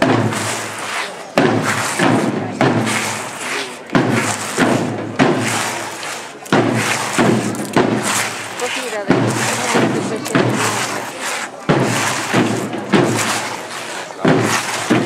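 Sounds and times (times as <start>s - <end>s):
slow heavy marching beats: 0.0s - 15.0s.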